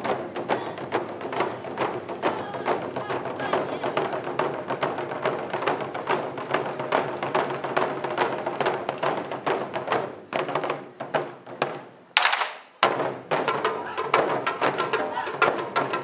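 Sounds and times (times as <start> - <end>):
taiko drums ensemble: 0.0 - 16.0.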